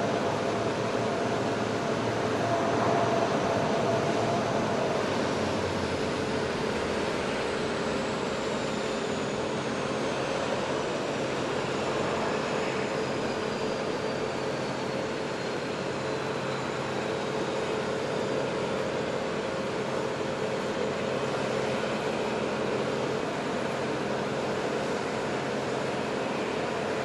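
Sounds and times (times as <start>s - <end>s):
aircraft turbine roaring: 0.0s - 27.0s.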